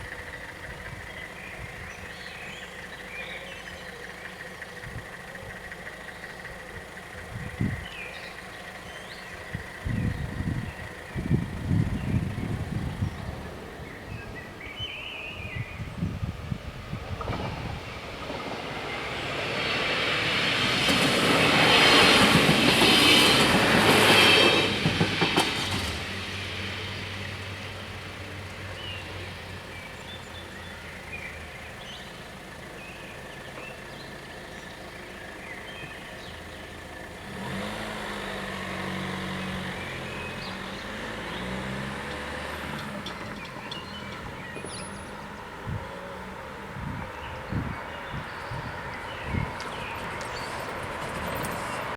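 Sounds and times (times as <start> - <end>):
diesel railcar passing: 0.0 - 51.9.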